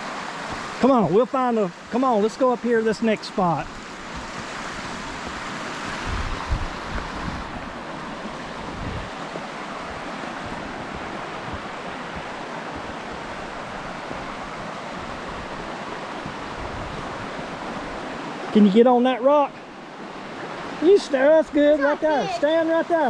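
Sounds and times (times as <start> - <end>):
creek flowing: 0.0 - 23.0.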